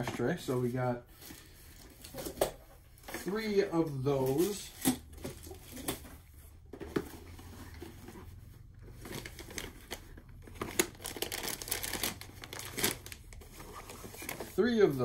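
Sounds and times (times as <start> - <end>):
wrapping crinkling and rustling: 0.0 - 15.0.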